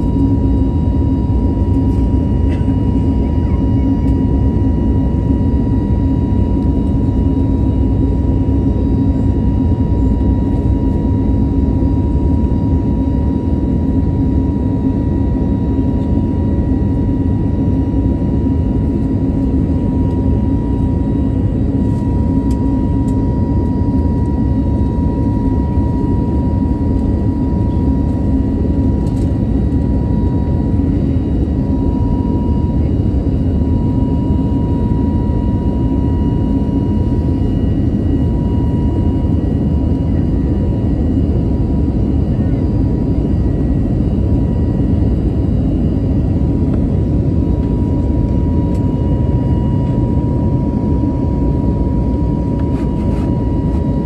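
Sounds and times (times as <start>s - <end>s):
airplane cabin engine rumble: 0.0s - 54.0s
constant engine whine: 0.0s - 54.0s.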